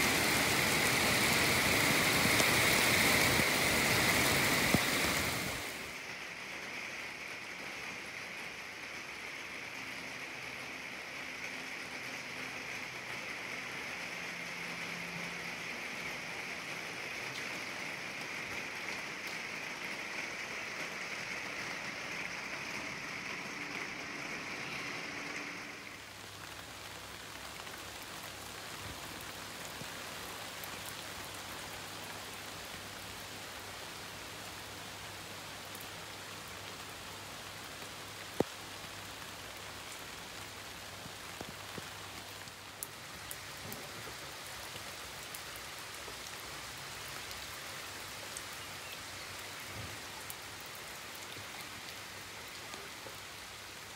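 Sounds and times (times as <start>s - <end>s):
heavy rain on a plastic roof: 0.0s - 53.9s
rain falling on wet street: 0.0s - 53.9s.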